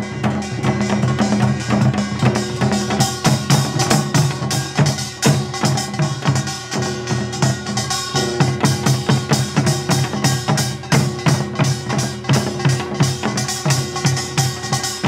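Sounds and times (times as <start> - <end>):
fast drum beat: 0.0 - 15.0
sustained instrumental tones: 0.0 - 15.0.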